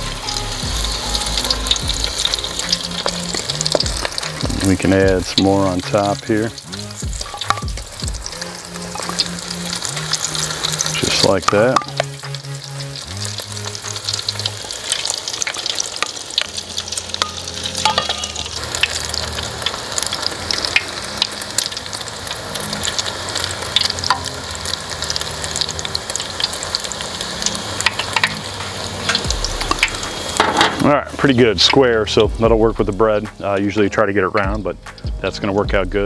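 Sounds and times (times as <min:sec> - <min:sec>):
spatula working in oil: 0:00.0 - 0:32.4
food sizzling in hot oil: 0:00.0 - 0:35.5.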